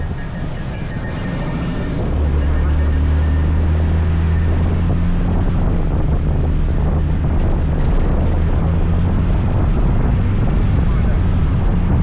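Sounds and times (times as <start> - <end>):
scooter engine humming: 0.0 - 12.0
wind on microphone: 0.0 - 12.0.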